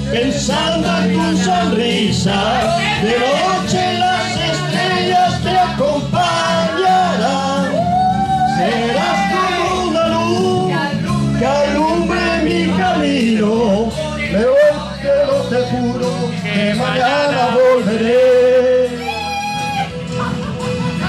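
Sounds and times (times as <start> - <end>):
people singing into microphones: 0.0 - 19.4
backing track over loudspeakers: 0.0 - 21.0.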